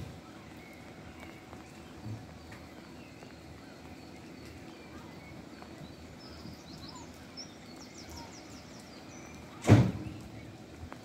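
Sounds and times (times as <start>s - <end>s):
faint bird chirps: 0.0s - 10.6s.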